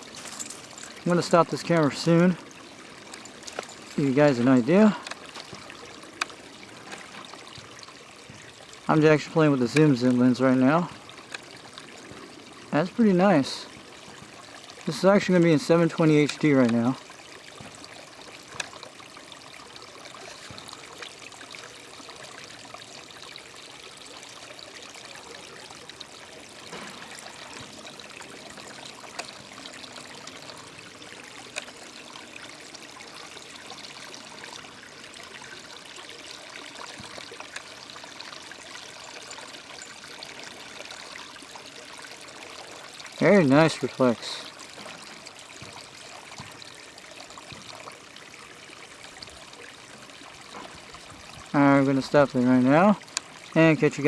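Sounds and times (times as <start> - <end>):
water rushing and splashing: 0.0 - 54.0.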